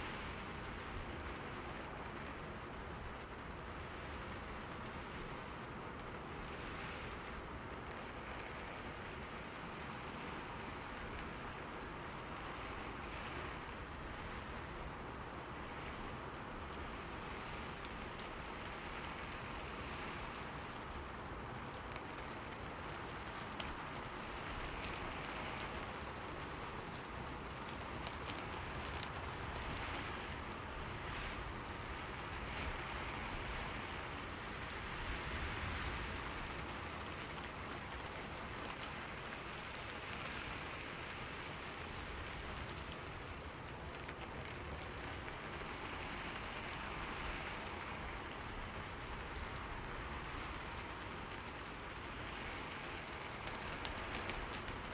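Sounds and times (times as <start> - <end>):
rain falling on leaves: 0.0 - 54.9.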